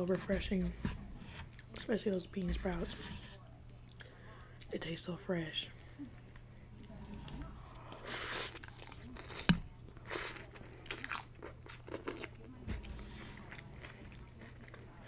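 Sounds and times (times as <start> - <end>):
chewing and crunching food: 0.0 - 4.8, 5.7 - 15.0.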